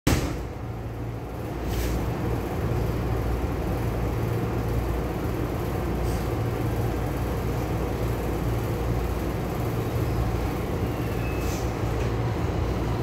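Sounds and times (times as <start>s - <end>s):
train cabin rumble and hum: 0.1s - 13.0s.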